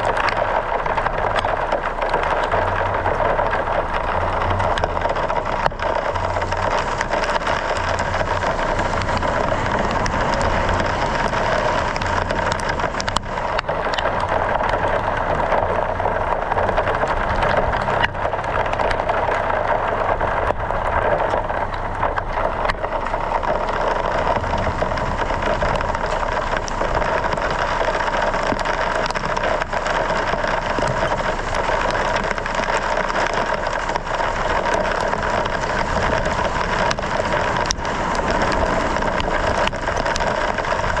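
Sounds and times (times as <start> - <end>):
hail pelting a vehicle: 0.0 - 41.0
sharp ticks of hailstones: 0.0 - 41.0.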